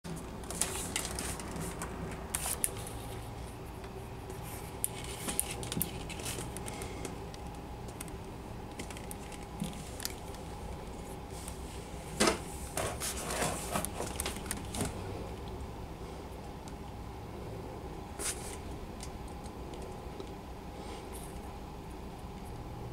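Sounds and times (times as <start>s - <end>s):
steady low hum: 0.1s - 22.9s.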